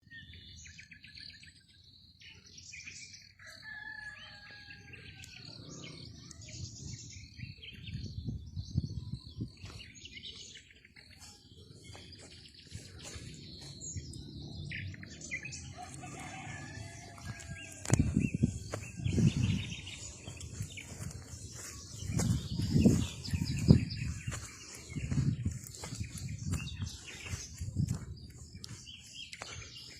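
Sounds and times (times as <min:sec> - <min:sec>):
birds singing and chirping: 0:00.0 - 0:29.9.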